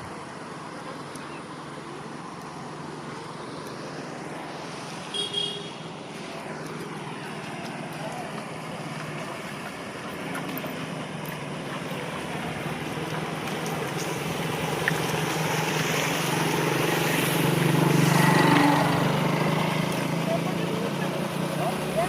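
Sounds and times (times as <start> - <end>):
broad rushing noise: 0.0 - 22.0
engine humming: 0.0 - 22.0.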